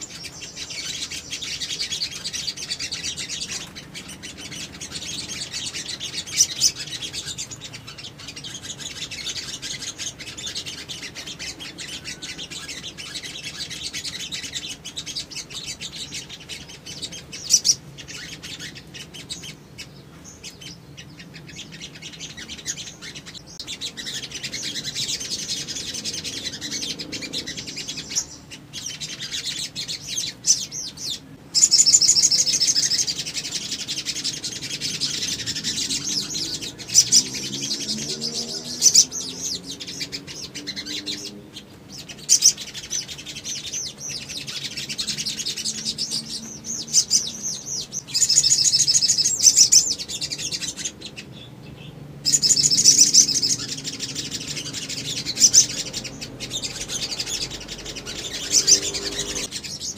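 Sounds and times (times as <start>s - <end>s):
birds trilling and chirping: 0.0s - 59.9s.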